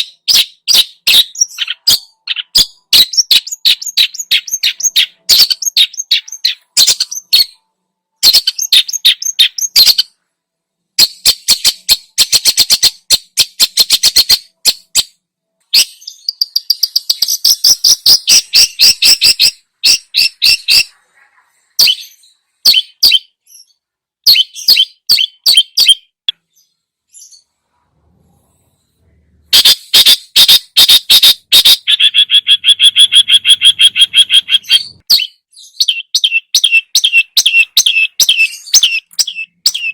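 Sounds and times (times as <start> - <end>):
bird singing: 0.0 - 10.2, 11.0 - 27.5, 29.5 - 39.9.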